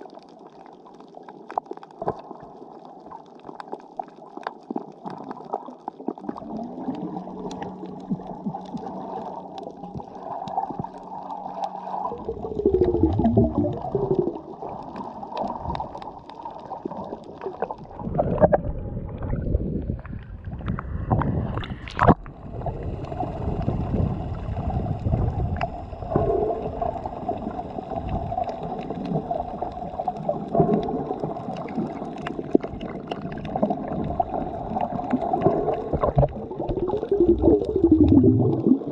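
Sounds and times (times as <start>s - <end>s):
muffled water sloshing: 6.2s - 38.9s.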